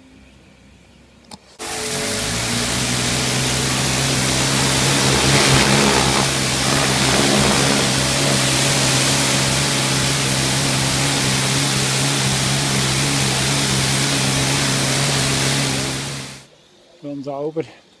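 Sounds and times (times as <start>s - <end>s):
pressure washer jet hissing: 1.6s - 16.4s
steady low hum: 1.8s - 16.4s.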